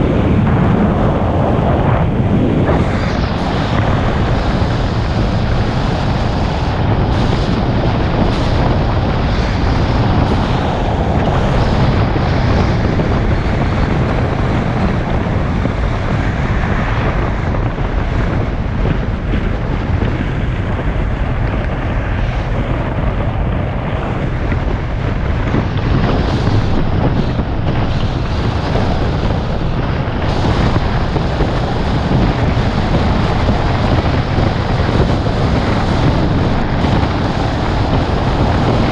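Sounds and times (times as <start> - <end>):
road and tyre rumble: 0.0 - 38.9
wind buffeting microphone: 0.0 - 38.9.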